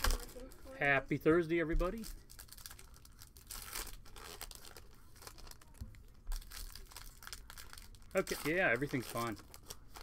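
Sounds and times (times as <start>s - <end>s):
foil wrapper crinkling and tearing: 0.0s - 0.6s, 1.9s - 10.0s.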